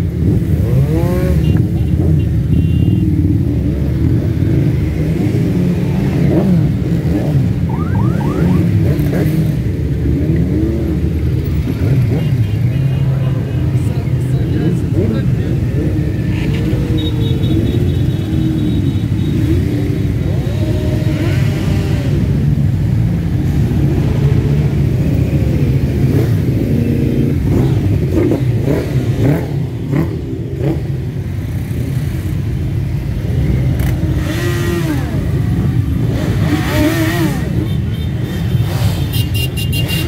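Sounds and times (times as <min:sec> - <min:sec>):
motorcycles engine rumble: 0:00.0 - 0:40.0.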